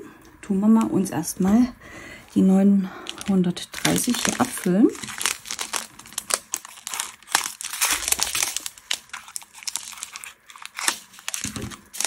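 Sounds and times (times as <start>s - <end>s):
plastic bags crinkling: 2.2s - 12.0s.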